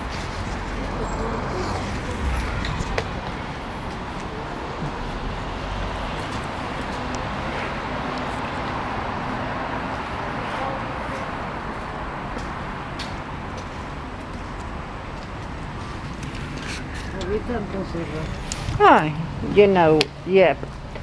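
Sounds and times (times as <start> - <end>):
hum of passing vehicles: 0.0 - 21.0.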